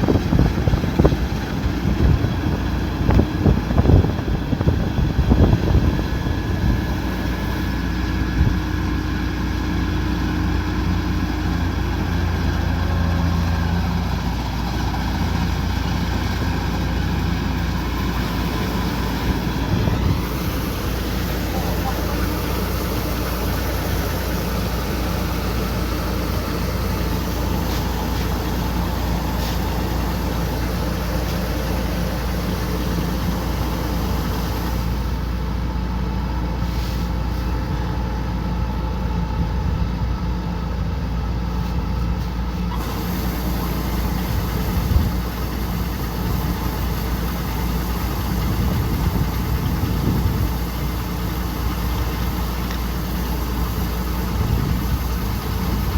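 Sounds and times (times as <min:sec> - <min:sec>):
combine harvester engine running: 0:00.0 - 0:55.9.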